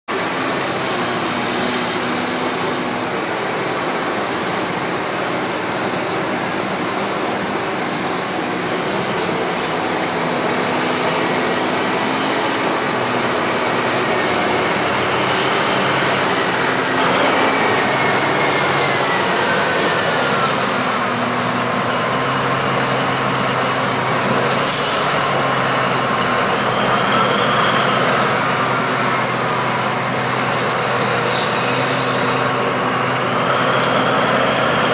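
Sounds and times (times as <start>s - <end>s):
excavator diesel engine drone: 0.1s - 34.9s
hydraulic whine: 0.1s - 34.9s.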